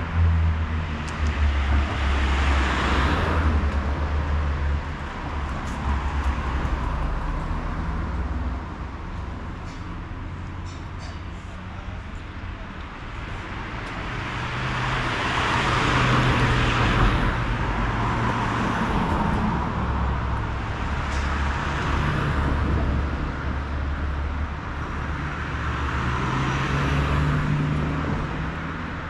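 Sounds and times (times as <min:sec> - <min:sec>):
cars driving past: 0:00.0 - 0:29.0.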